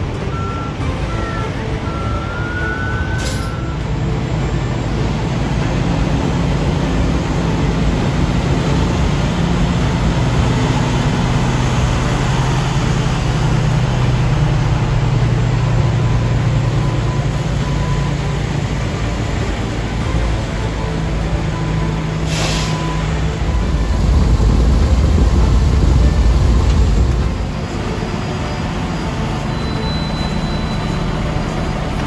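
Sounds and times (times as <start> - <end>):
diesel engines humming: 0.0 - 32.0
road noise: 0.0 - 32.0.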